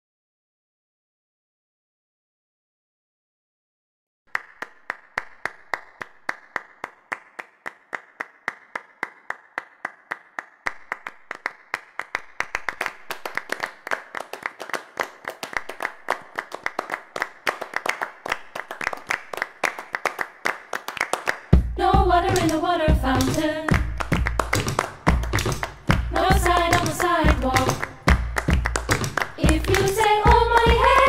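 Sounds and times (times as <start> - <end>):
people clapping in rhythm: 4.3 - 31.0.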